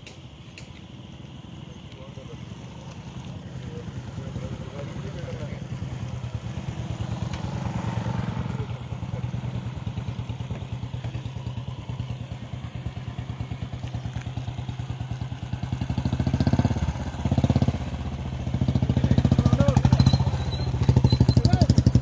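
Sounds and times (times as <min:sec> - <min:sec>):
motorcycle engine idling: 0:00.0 - 0:22.0
motorcycle throttle revving: 0:00.0 - 0:22.0.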